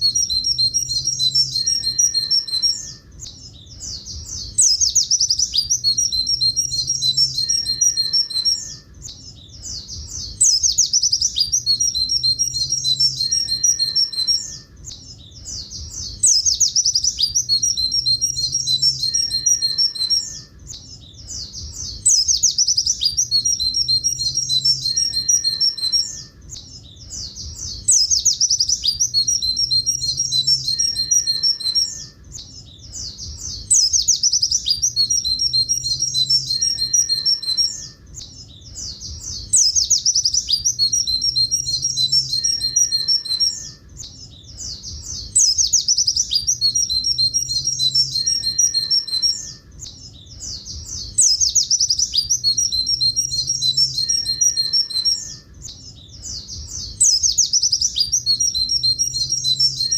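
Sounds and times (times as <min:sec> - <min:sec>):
bird singing with fast trills: 0:00.0 - 0:59.9.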